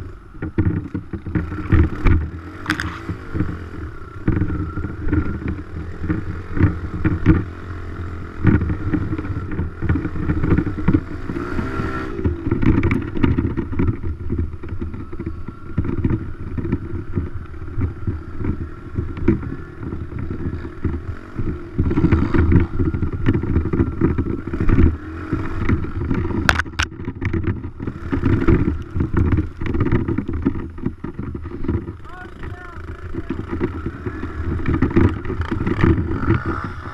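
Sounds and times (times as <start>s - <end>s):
dirt bike engine running: 0.0s - 36.9s
knocks and jolts over rough ground: 0.0s - 36.9s.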